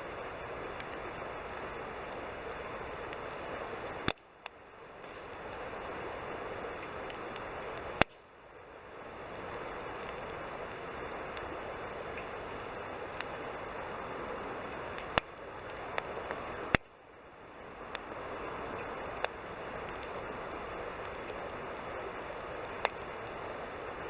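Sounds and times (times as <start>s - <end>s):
campfire hissing and crackling: 0.0s - 24.0s
sharp fire pops: 0.4s - 8.3s, 9.1s - 17.0s, 17.9s - 23.6s.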